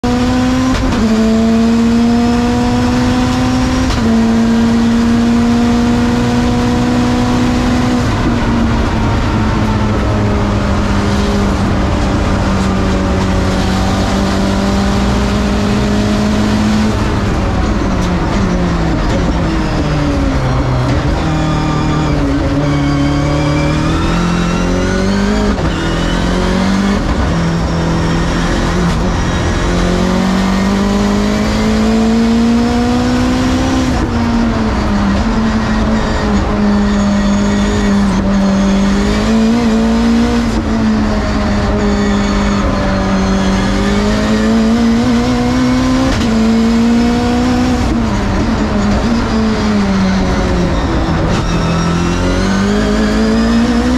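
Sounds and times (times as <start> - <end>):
car engine revving with gear changes: 0.0 - 53.9.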